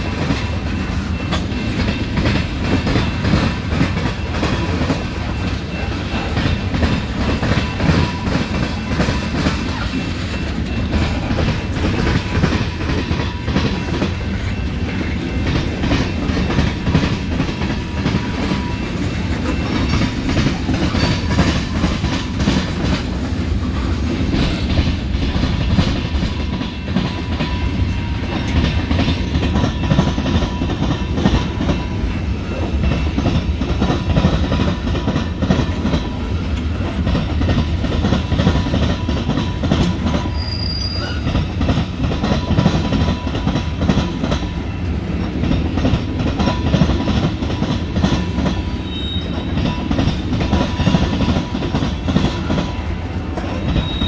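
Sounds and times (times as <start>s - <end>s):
train wheels clattering: 0.0s - 54.0s.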